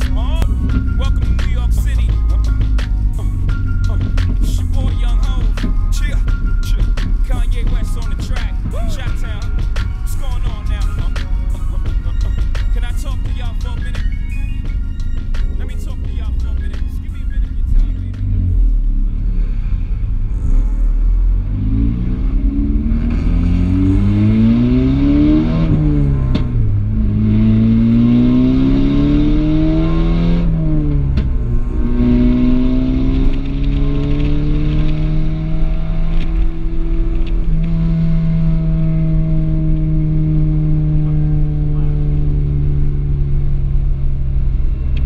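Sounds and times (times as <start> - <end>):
car engine accelerating hard: 0.0 - 45.0.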